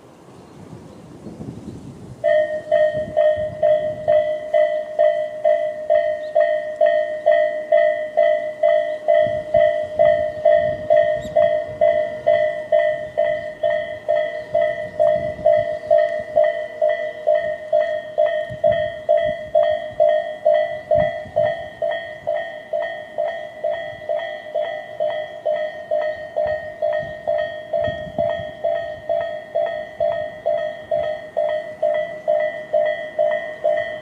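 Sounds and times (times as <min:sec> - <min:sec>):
electronic level-crossing bell: 0:02.2 - 0:34.0.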